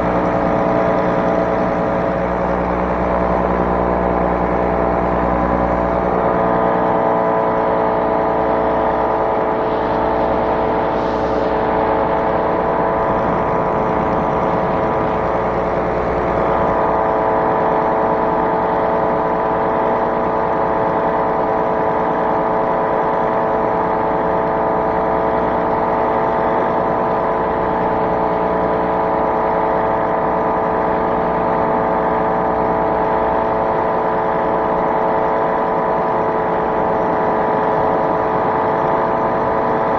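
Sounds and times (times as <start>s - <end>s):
ultralight aircraft engine running: 0.0s - 39.9s.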